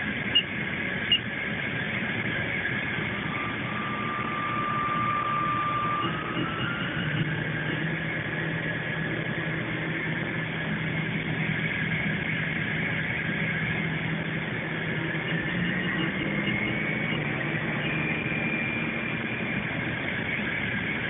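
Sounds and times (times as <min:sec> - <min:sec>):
low hum: 0:00.0 - 0:21.0
spindle high whine: 0:00.0 - 0:21.0.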